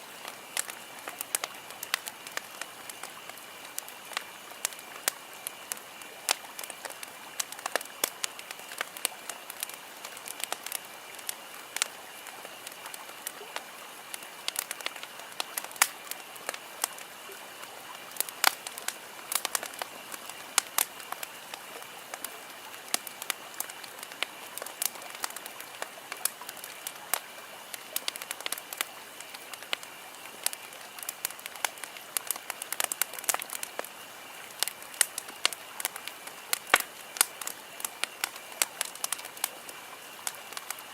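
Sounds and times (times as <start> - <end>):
soft steady hiss: 0.0 - 40.9
campfire pops and snaps: 0.1 - 40.9.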